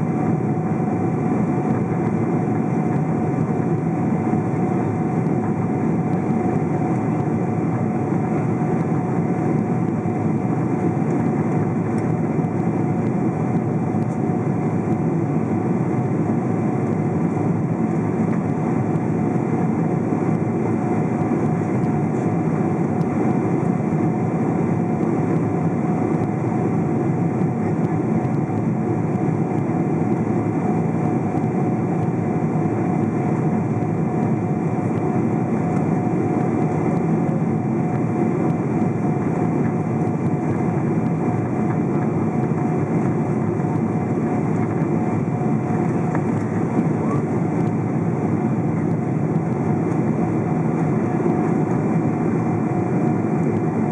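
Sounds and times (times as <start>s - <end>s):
jet engines droning: 0.0s - 53.9s
mid-pitched hum: 0.0s - 53.9s.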